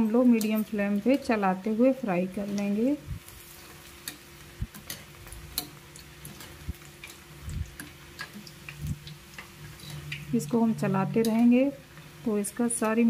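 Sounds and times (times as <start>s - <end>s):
food crackling in frying oil: 0.0s - 13.0s
low steady hum: 0.0s - 13.0s.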